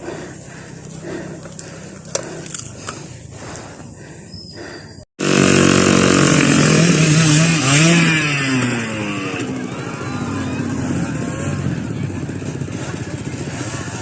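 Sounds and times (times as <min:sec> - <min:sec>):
motorcycle engine idling and revving: 0:00.0 - 0:03.9, 0:04.6 - 0:14.0.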